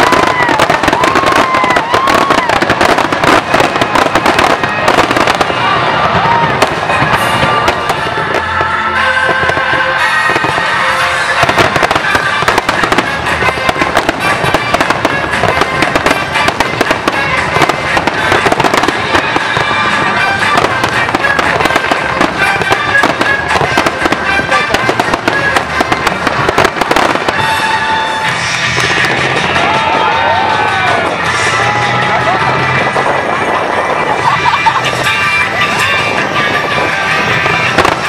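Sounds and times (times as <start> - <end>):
fireworks bursting and crackling: 0.0 - 38.0
music with sustained tones: 0.1 - 38.0.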